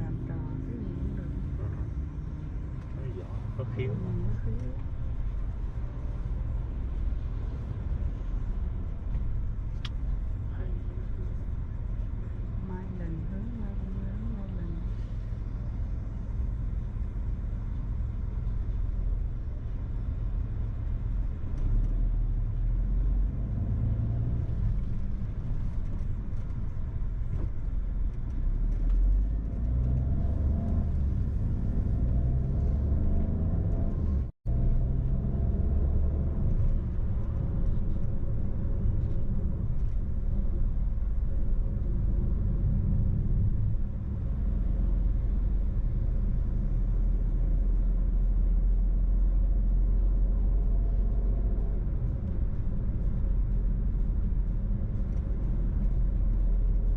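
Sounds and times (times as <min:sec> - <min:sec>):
car cabin road noise: 0:00.0 - 0:56.9.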